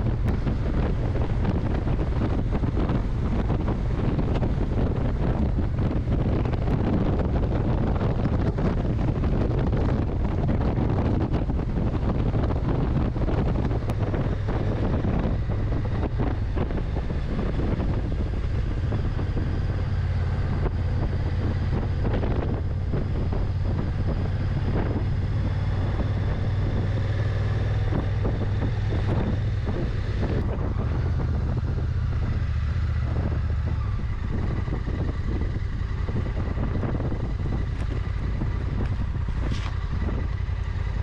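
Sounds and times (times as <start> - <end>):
motorcycle engine running: 0.0 - 41.0
wind on microphone: 0.0 - 41.0.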